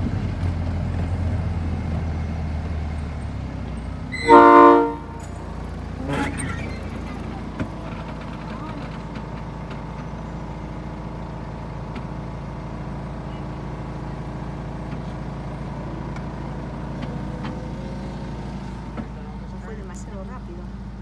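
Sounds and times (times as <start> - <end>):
miniature train engine drone: 0.0 - 21.0.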